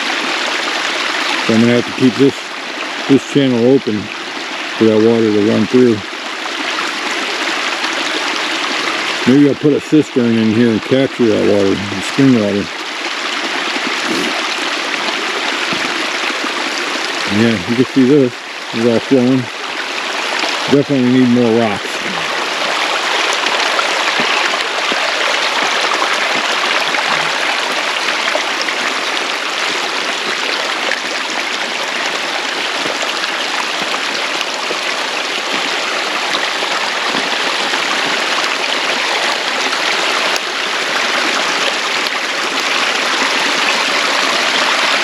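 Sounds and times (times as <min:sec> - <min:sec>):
water rushing through ditch: 0:00.0 - 0:45.0.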